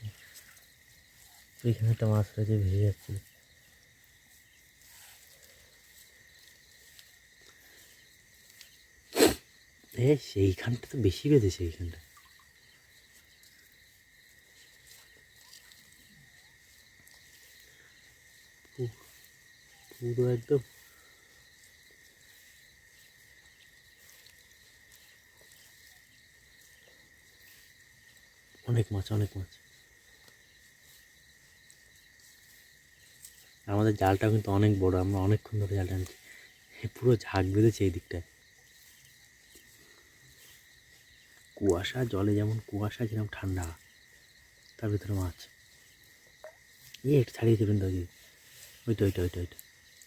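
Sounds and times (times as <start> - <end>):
crickets trilling: 0.0 - 50.0
night insects chirring: 0.0 - 50.0.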